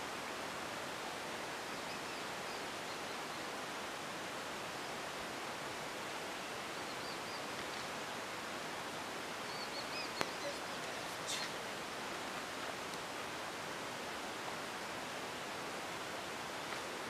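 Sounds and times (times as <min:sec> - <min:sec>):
outdoor ambient hiss: 0:00.0 - 0:17.0.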